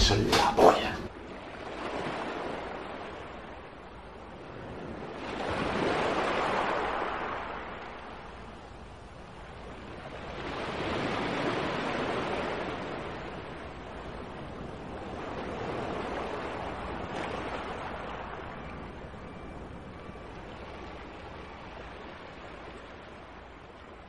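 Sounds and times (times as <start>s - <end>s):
ocean waves washing in: 0.0s - 24.0s.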